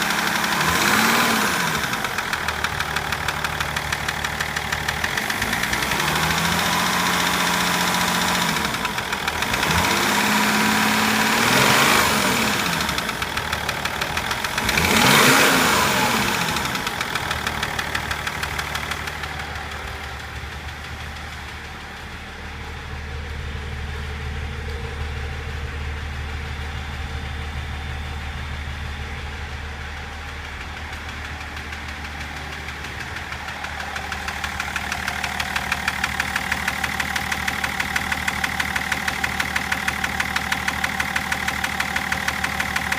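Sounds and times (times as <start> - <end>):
diesel engine revving: 0.0 - 42.9
engine knocking at idle: 0.0 - 42.9.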